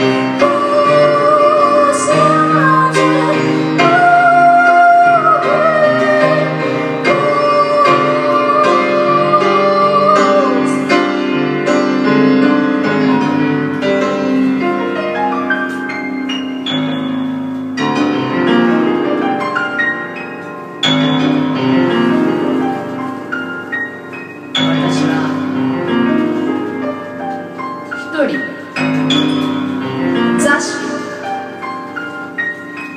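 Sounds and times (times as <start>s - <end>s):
improvised piano: 0.0s - 32.9s.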